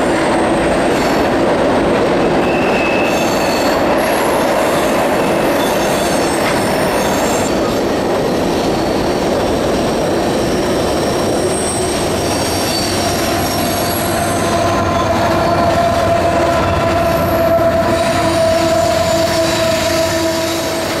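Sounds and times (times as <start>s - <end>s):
continuous train rumble: 0.0s - 21.0s
train wheels squealing: 2.4s - 21.0s.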